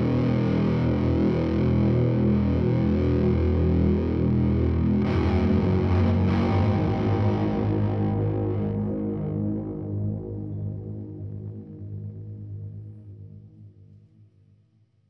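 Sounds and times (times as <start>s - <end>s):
distorted electric guitar: 0.0s - 12.7s.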